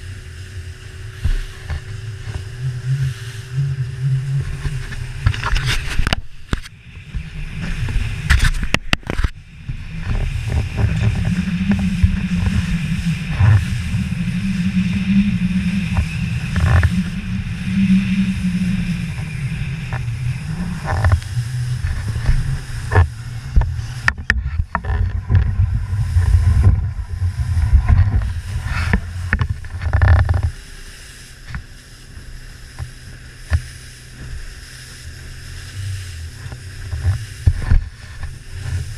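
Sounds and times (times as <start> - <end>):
outboard motor running hard: 0.0 - 38.9
rushing water: 0.0 - 38.9
wind: 0.0 - 38.9.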